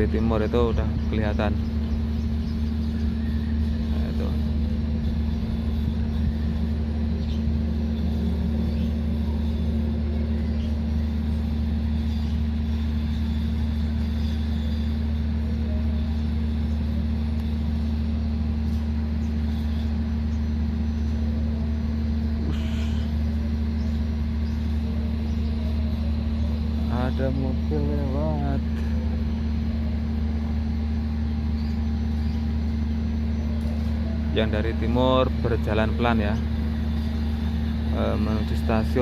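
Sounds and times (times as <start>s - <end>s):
diesel locomotive idling: 0.0s - 39.0s.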